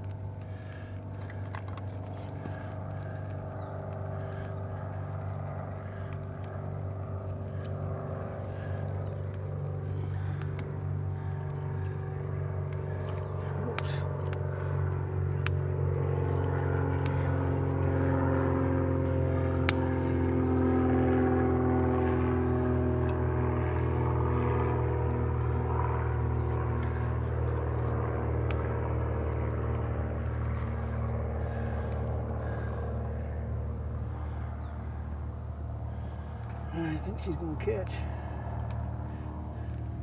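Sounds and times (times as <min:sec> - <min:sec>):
distant engine drone: 0:00.0 - 0:40.0.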